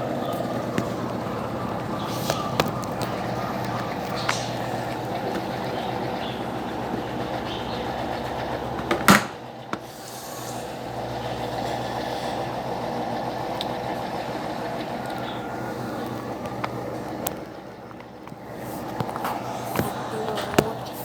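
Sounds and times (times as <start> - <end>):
washing machine humming and churning: 0.0 - 21.0.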